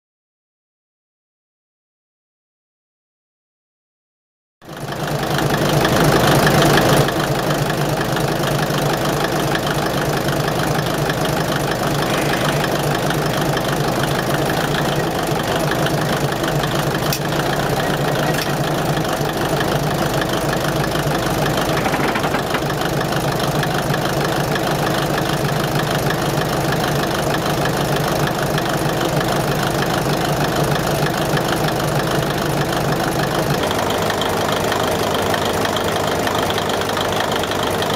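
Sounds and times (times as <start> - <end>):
diesel engine idling: 4.6 - 37.9.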